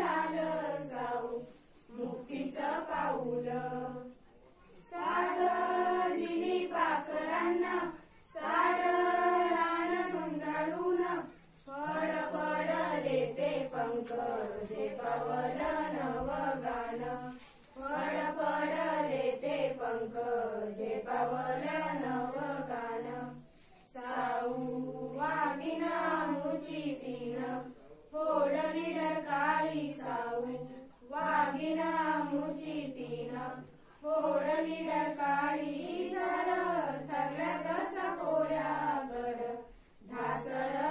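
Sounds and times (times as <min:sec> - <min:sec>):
children singing unaccompanied: 0:00.0 - 0:04.1, 0:04.9 - 0:40.9.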